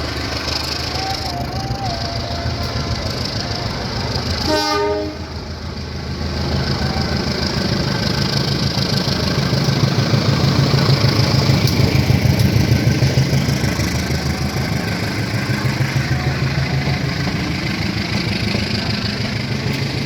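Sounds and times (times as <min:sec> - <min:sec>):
diesel locomotive engine humming: 0:00.0 - 0:20.0.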